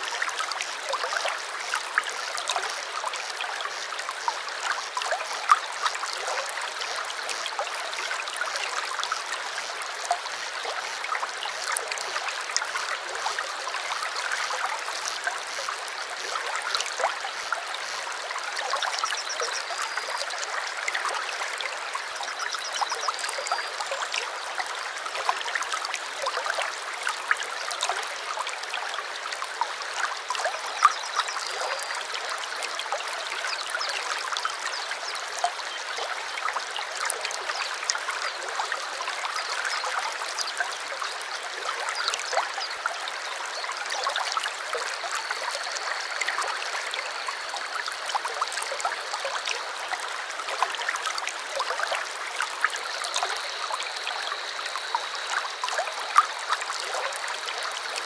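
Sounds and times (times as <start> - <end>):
creek babbling: 0.0 - 58.0.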